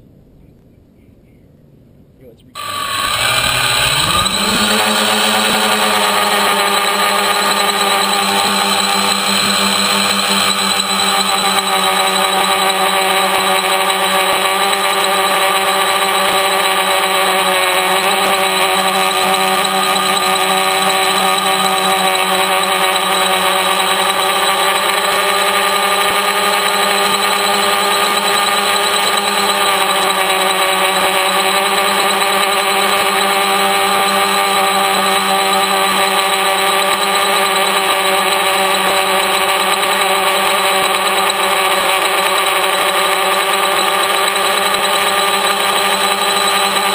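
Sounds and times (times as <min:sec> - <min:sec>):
electric motors and propellers humming: 0:02.6 - 0:46.9.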